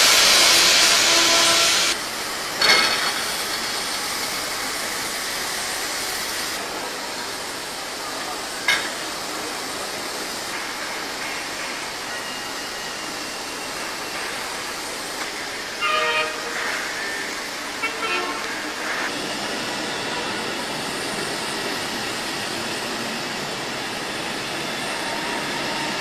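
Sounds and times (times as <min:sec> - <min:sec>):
steam hissing: 0:00.0 - 0:26.0.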